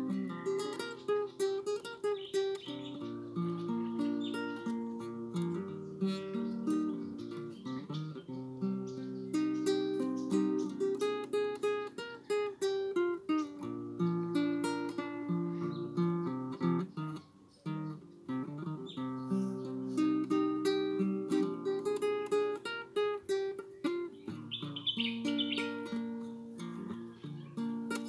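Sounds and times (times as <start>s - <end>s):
classical acoustic guitar: 0.0s - 28.0s.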